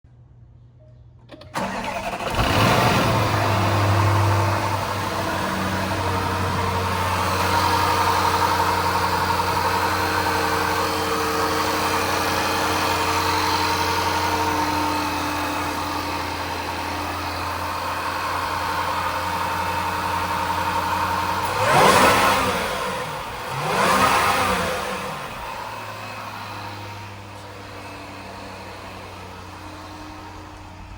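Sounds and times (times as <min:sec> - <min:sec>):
car engine starting and idling: 0:01.2 - 0:30.9.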